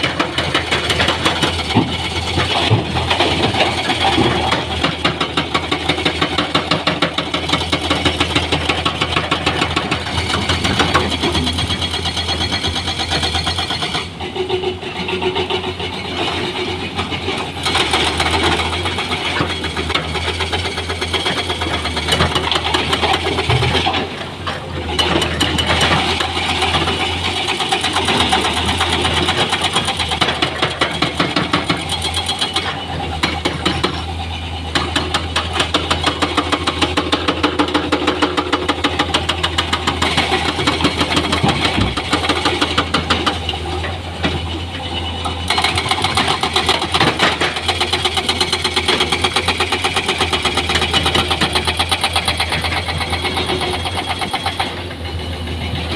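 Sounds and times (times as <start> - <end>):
diesel engine chugging: 0.0 - 55.9.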